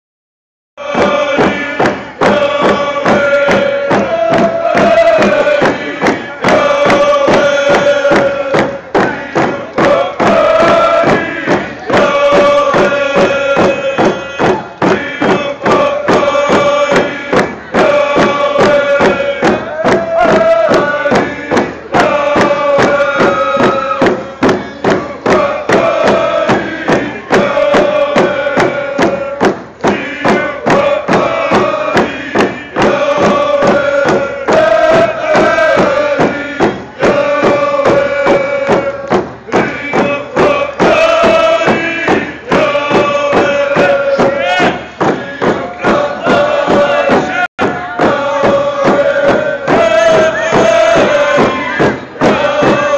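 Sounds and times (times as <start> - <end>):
group chanting in unison: 0.8 - 52.9
steady drumbeat: 0.8 - 52.9.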